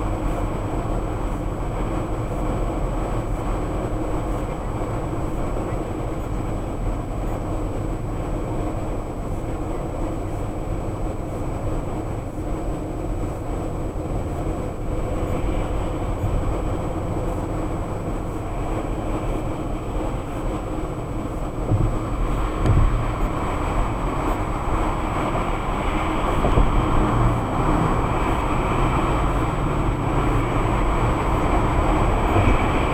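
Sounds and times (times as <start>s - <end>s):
car road and engine noise: 0.0s - 32.9s.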